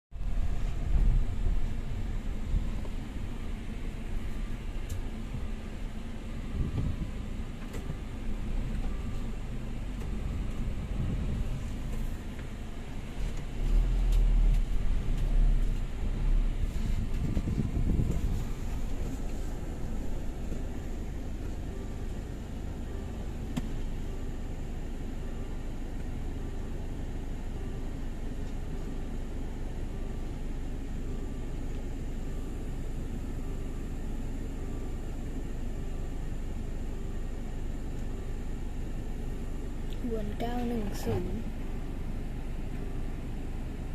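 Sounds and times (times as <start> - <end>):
car engine rumble from inside cabin: 0.2 - 43.9
fan running: 0.2 - 43.9.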